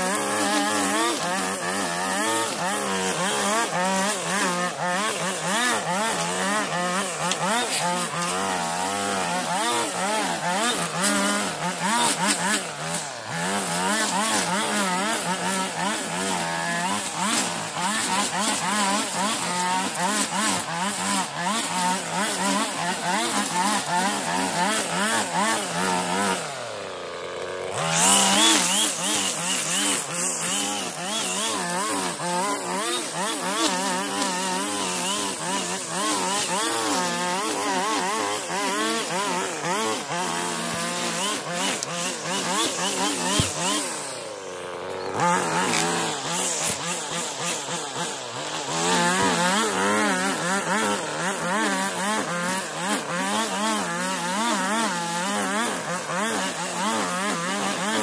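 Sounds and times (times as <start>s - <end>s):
strimmer engine revving: 0.0s - 58.0s.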